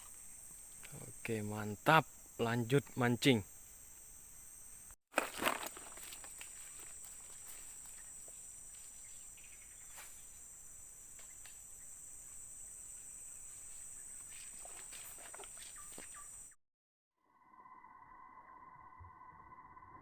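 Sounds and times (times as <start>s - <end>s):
high-pitched insect drone: 0.0s - 5.0s, 5.9s - 16.6s, 17.2s - 20.0s.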